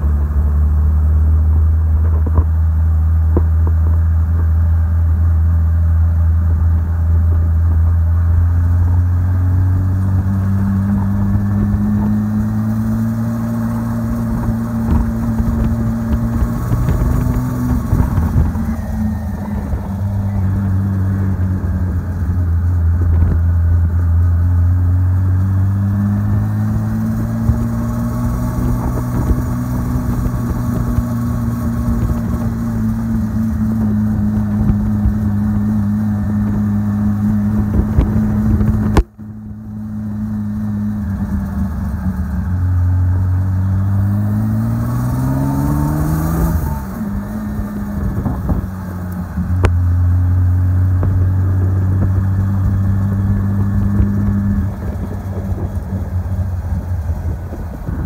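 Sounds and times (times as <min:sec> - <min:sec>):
car engine driving: 0:00.0 - 0:58.0.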